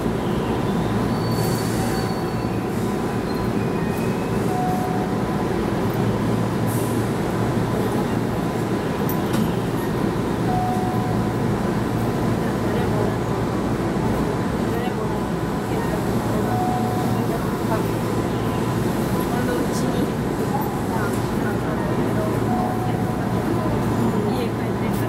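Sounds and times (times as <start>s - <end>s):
electric train hum and rumble: 0.0s - 25.0s.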